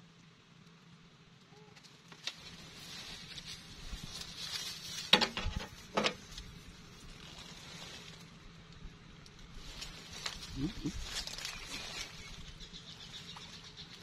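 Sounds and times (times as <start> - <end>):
crackling rustling handling noise: 1.6 - 14.0.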